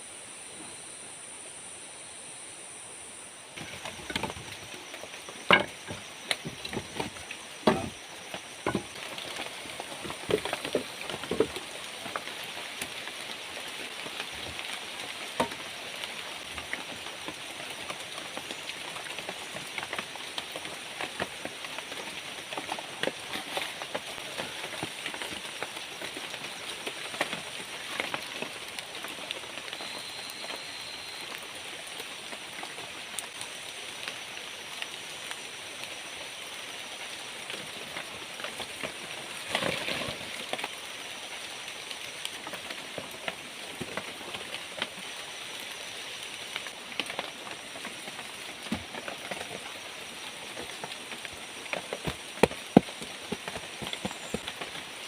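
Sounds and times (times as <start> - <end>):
rain falling: 3.2 - 55.0.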